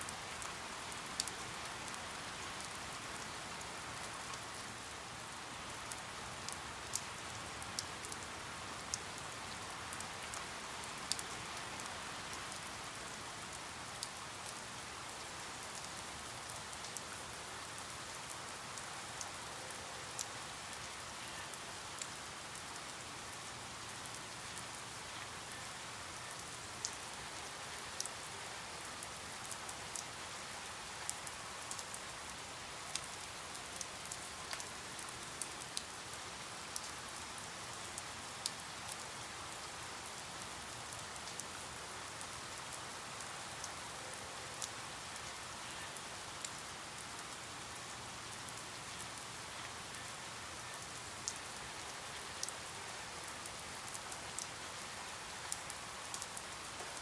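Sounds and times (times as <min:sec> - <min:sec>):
rain falling: 0:00.0 - 0:57.0
raindrops ticking on a surface: 0:00.0 - 0:57.0.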